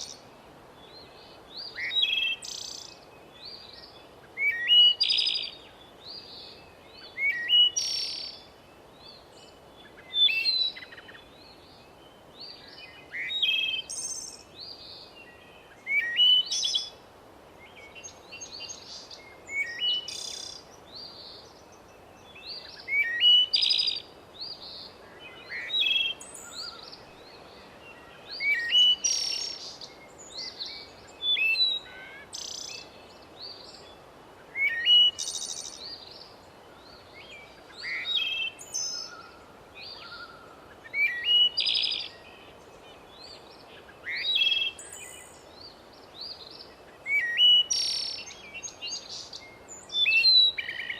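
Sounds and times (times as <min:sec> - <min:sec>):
low background hiss: 0:00.0 - 0:50.9
songbirds chirping: 0:00.0 - 0:50.9.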